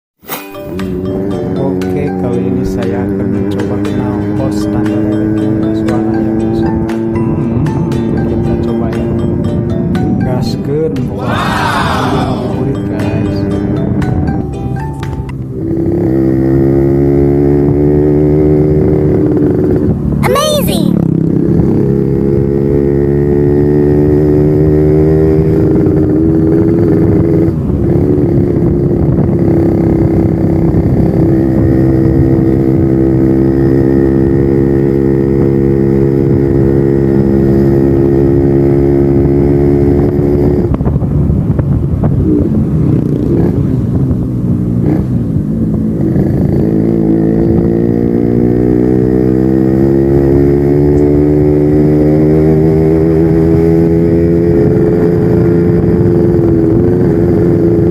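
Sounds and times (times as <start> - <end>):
two-stroke motorcycle engine revving: 0.8 - 8.6, 15.4 - 20.2, 20.9 - 57.9.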